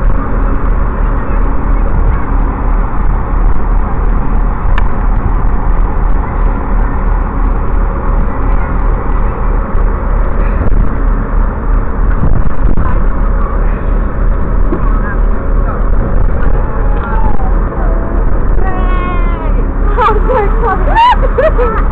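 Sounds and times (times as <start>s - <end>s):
diesel train engine running: 0.0s - 21.9s.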